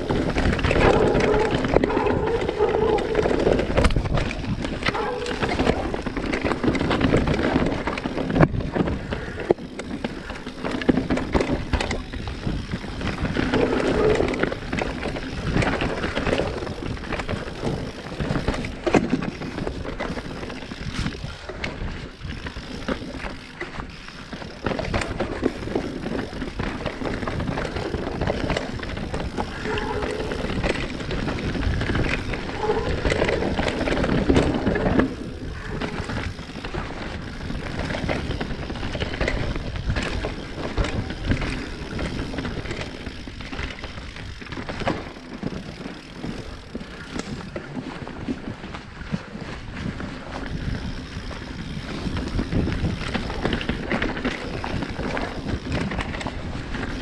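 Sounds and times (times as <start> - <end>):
bike knocking and rattling: 0.0 - 57.0
bike tyres on dirt trail: 0.0 - 57.0.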